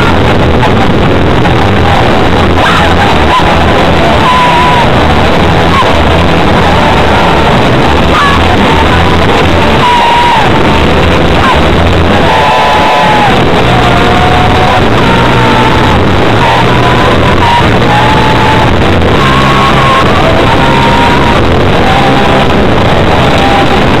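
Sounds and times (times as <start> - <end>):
electric guitar: 0.0 - 24.0
rock band playing loud: 0.0 - 24.0.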